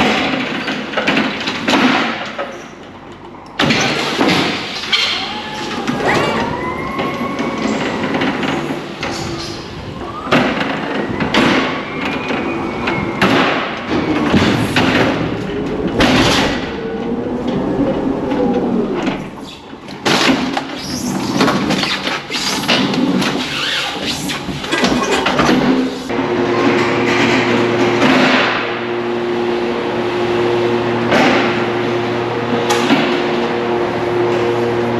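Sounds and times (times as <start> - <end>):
pallet jack clattering knocks: 0.0 - 3.0, 3.6 - 28.8.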